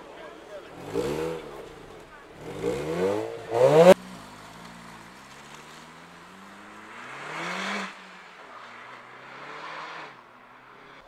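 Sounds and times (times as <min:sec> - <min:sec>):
car engine accelerating: 0:00.0 - 0:11.0
car engine revving: 0:00.0 - 0:11.0.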